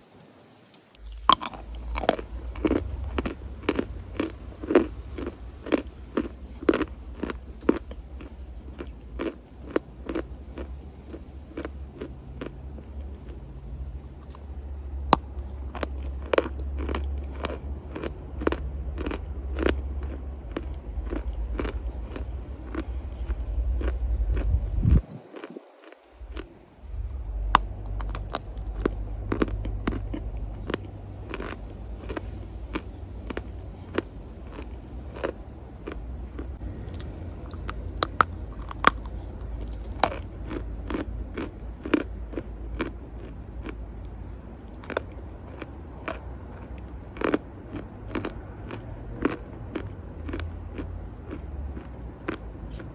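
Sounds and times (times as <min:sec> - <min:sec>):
low rumble: 0:01.0 - 0:25.4, 0:26.1 - 0:52.9
chalk crunching being chewed: 0:01.0 - 0:52.9.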